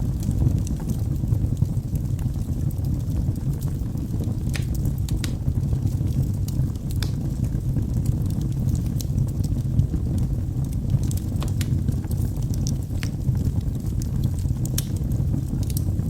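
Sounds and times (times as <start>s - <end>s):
logs burning with crackles: 0.0s - 16.0s.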